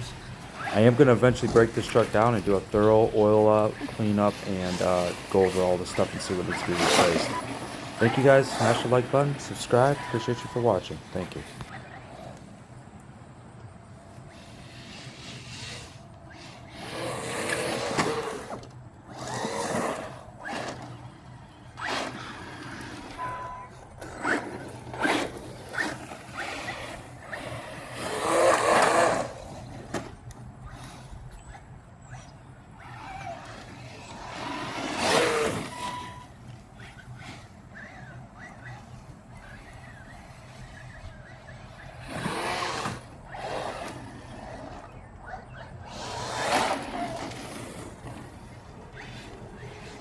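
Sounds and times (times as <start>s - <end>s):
rc truck throttle bursts: 0.0s - 12.5s, 14.0s - 50.0s
tyres on ground: 0.0s - 50.0s.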